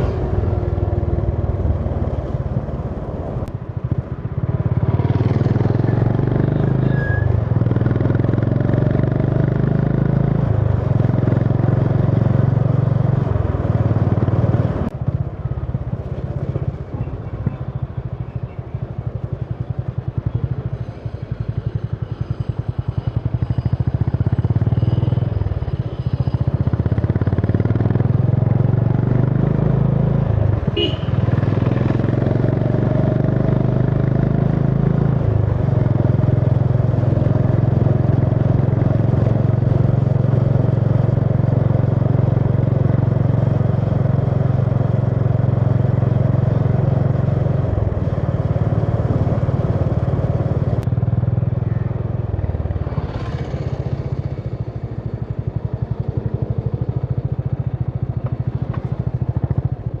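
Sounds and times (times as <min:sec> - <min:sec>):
motorcycle engine and exhaust: 0:00.0 - 1:00.0.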